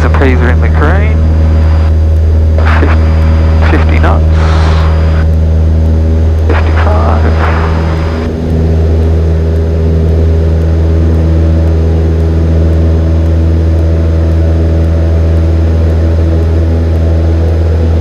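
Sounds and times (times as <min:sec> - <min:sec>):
airplane engine and propeller drone: 0:00.0 - 0:18.0.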